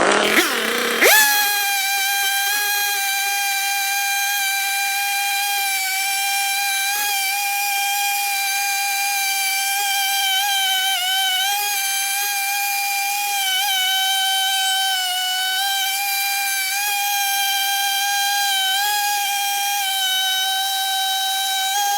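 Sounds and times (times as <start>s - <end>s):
chainsaw running: 0.0s - 21.9s.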